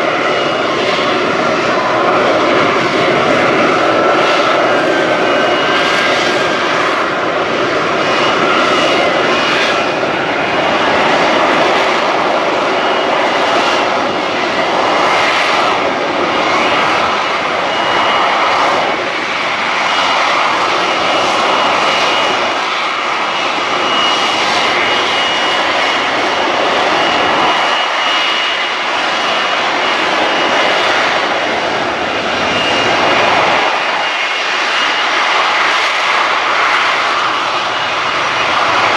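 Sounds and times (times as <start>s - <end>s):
jet engine roaring: 0.0s - 38.9s.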